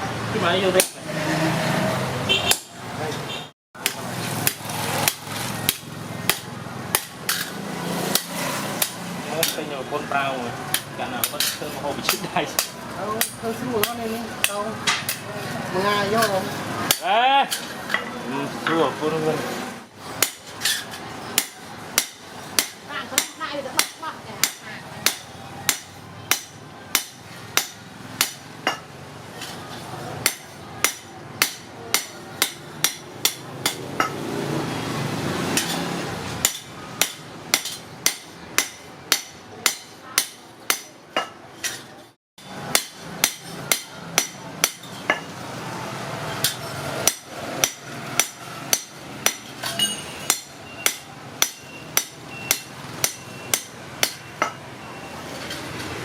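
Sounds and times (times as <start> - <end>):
hammer striking metal: 0.8 - 1.0, 2.3 - 2.8, 3.8 - 9.7, 10.7 - 15.3, 16.2 - 18.8, 20.2 - 34.2, 35.5 - 45.4, 46.3 - 56.0.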